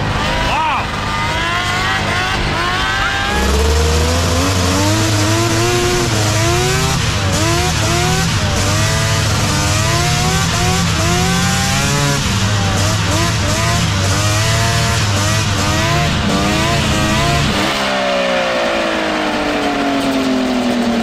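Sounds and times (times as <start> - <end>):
two-stroke engine running hard: 0.0 - 21.0.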